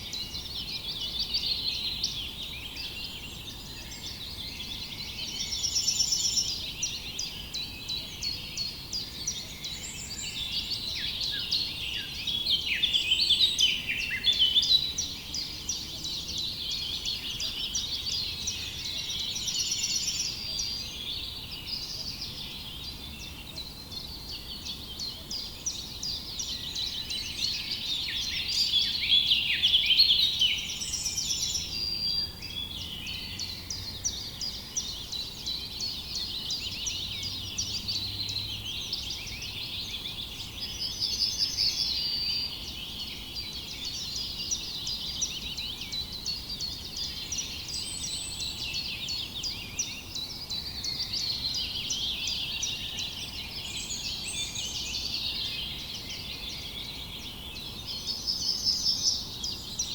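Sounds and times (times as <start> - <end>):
small birds chirping chorus: 0.0 - 59.9.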